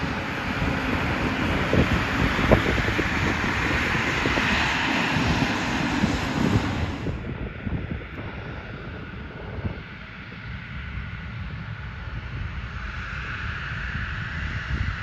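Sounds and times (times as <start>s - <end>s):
aircraft engines passing: 0.0s - 15.0s
wind buffeting microphone: 0.0s - 15.0s.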